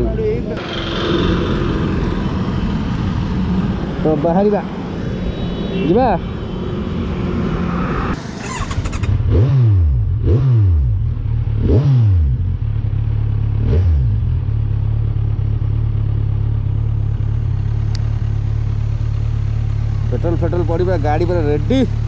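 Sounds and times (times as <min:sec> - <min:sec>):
motorcycle engine revving and idling: 0:00.0 - 0:05.2, 0:08.4 - 0:22.0.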